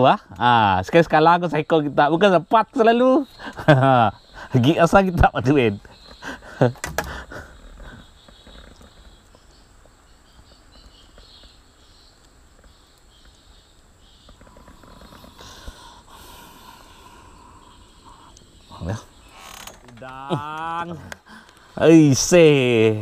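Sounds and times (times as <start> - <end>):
faint high chirping: 0.4 - 23.0.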